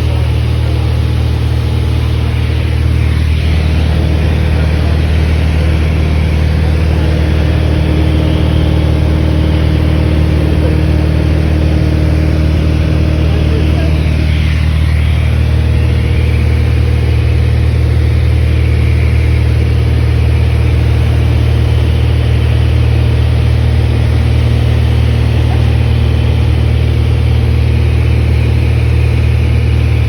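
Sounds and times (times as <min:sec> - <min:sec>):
propeller aircraft engine drone: 0:00.0 - 0:30.0.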